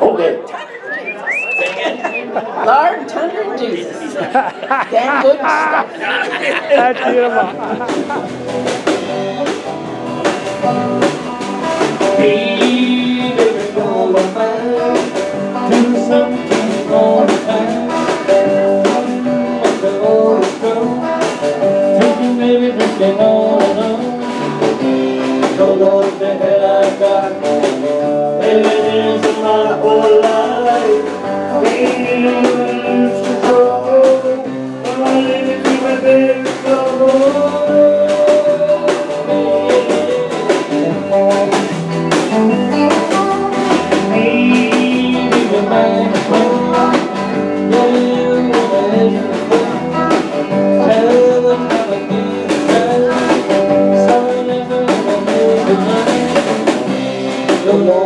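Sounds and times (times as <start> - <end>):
live band playing dance tune: 0.0 - 58.0
electric guitar: 4.3 - 58.0
drum kit beat: 6.2 - 58.0.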